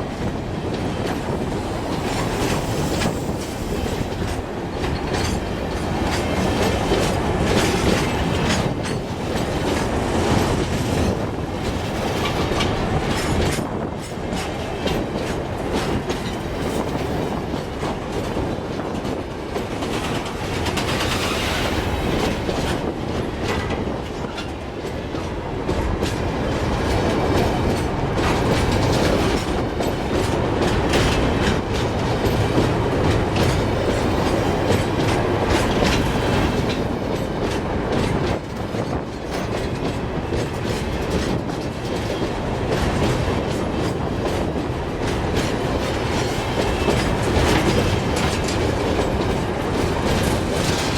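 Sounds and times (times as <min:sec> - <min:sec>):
train wheels clattering over rail joints: 0:00.0 - 0:50.9.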